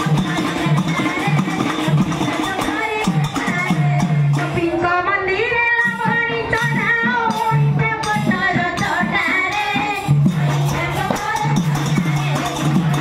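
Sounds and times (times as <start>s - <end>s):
rhythmic percussion: 0.0s - 13.0s.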